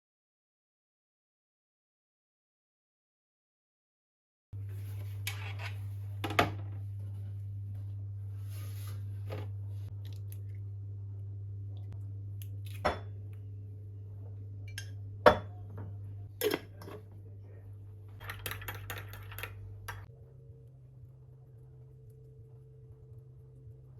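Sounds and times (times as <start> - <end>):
steady low hum: 4.6 - 23.9.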